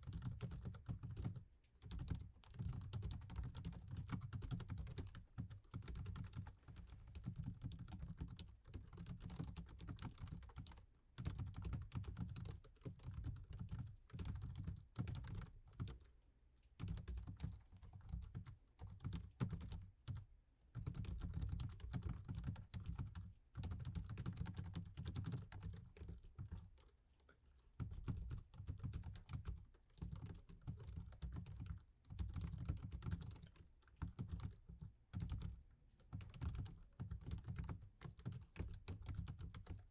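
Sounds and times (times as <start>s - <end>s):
typing on laptop keyboard: 0.0s - 16.1s, 16.8s - 39.9s.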